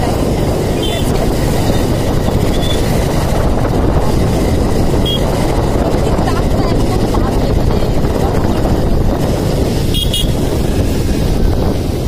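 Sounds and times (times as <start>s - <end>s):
motorbike engine running: 0.0s - 12.0s
road noise: 0.0s - 12.0s
wind rumble on microphone: 0.0s - 12.0s.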